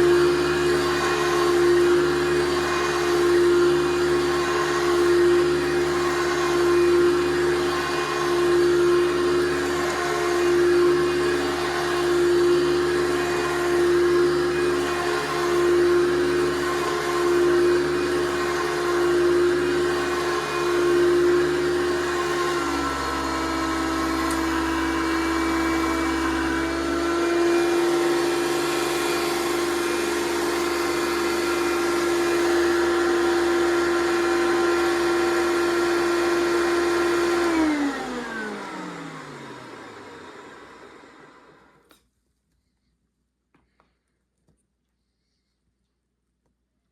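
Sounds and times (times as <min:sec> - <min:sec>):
vacuum cleaner motor whining: 0:00.0 - 0:41.9.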